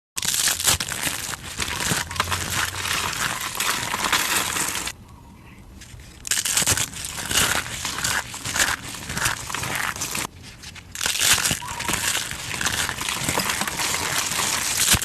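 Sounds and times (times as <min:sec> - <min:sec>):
brittle material crunching: 0:00.2 - 0:05.0, 0:05.8 - 0:15.0.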